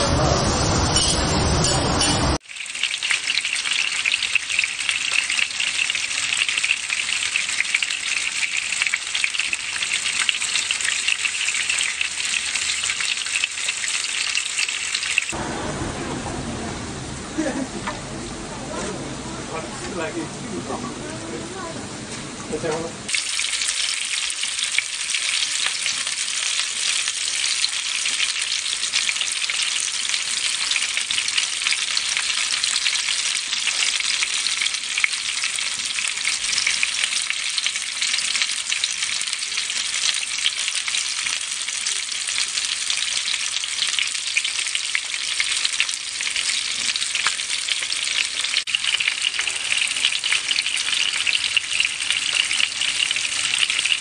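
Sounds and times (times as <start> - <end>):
fish sizzling in hot oil: 2.4 - 15.4, 22.6 - 54.0.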